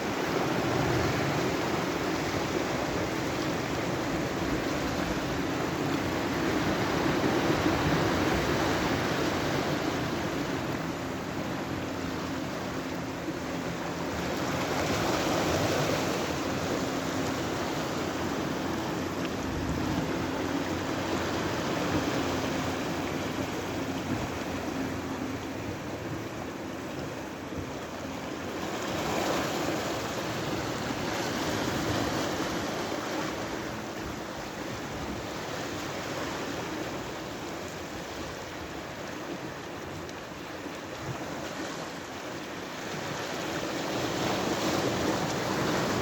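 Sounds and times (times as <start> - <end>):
sea waves breaking on shore: 0.0 - 46.0.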